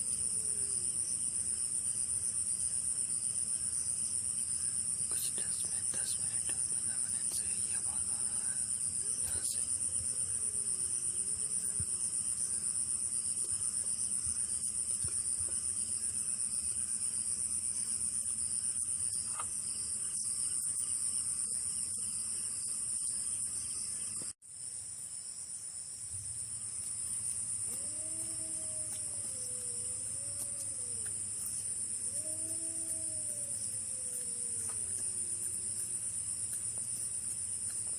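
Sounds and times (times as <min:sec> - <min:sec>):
crickets chirring: 0:00.0 - 0:37.9.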